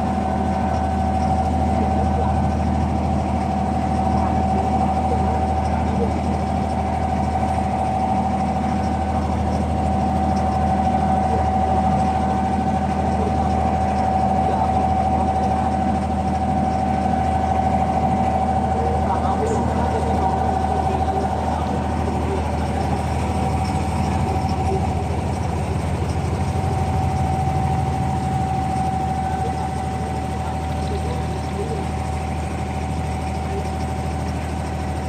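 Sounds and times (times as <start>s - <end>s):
boat diesel engine droning: 0.0s - 35.0s.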